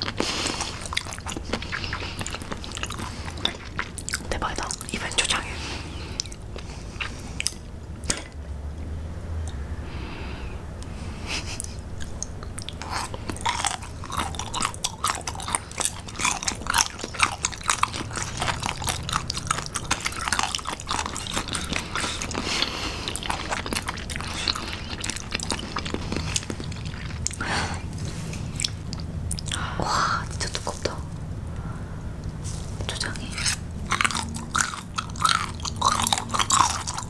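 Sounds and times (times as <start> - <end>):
people chewing crunchy fish: 0.0 - 8.4, 11.5 - 31.0, 32.3 - 37.0.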